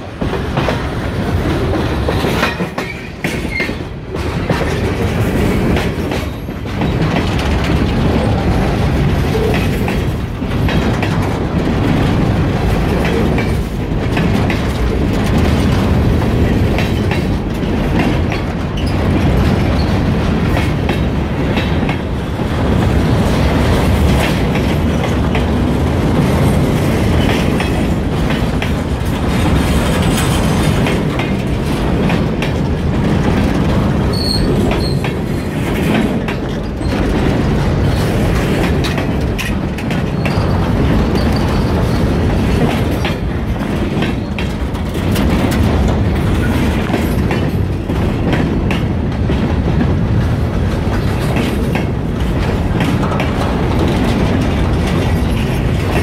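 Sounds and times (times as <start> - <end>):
freight train rumbling: 0.0 - 56.0
wheels clicking over rail joints: 0.0 - 56.0.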